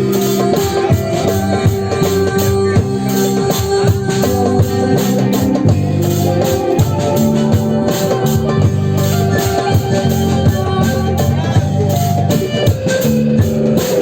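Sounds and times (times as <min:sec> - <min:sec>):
bass line: 0:00.0 - 0:14.0
organ-like synth chords: 0:00.0 - 0:14.0.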